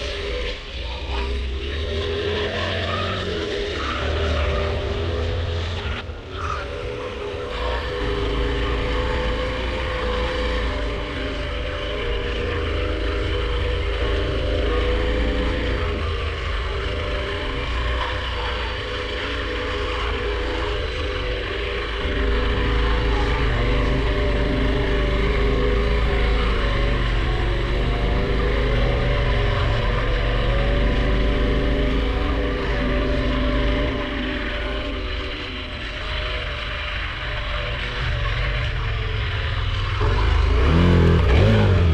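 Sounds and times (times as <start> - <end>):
motorcycle engine running: 7.4 - 41.9.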